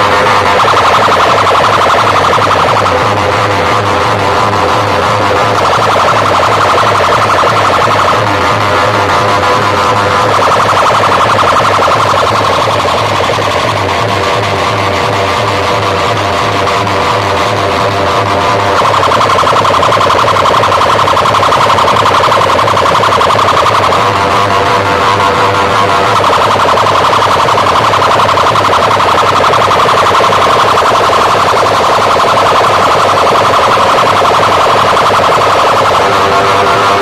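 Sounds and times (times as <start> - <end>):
distorted siren-like warbling tone: 0.0 - 37.0
pulsing bass: 0.0 - 37.0.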